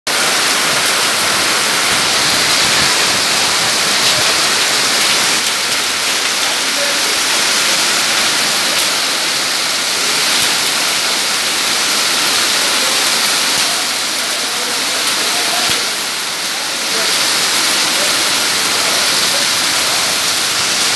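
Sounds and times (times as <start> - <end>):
hailstones ticking on ground: 0.1 - 20.9
heavy rain pelting: 0.1 - 20.9.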